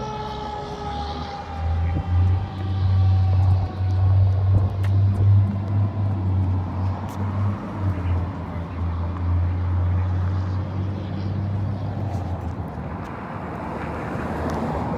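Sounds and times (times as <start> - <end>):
vehicle engine passing: 0.0 - 14.9.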